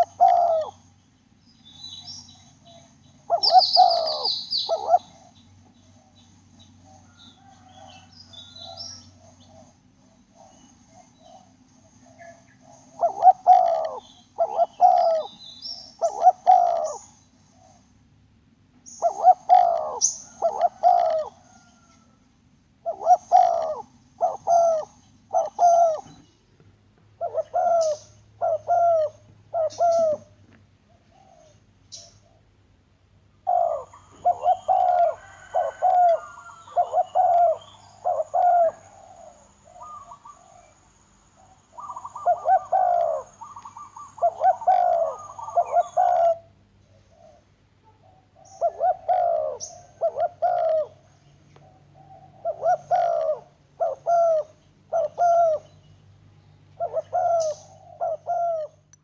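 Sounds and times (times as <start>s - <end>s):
dove cooing: 0.0s - 1.0s, 1.6s - 18.0s, 18.8s - 22.2s, 22.8s - 26.3s, 27.1s - 32.6s, 33.4s - 55.9s, 56.7s - 58.9s.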